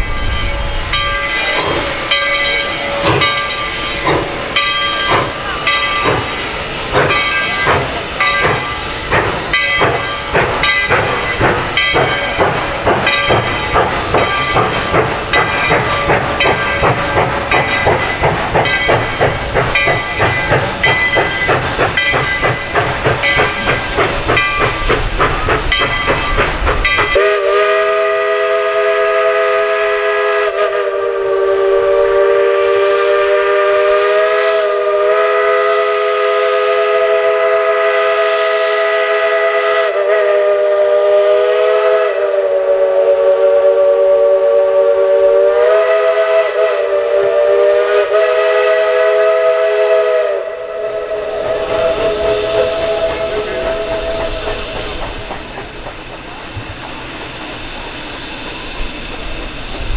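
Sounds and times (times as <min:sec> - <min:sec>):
steam locomotive whistle: 0:00.0 - 0:55.7
rhythmic beat of train: 0:00.0 - 0:59.9.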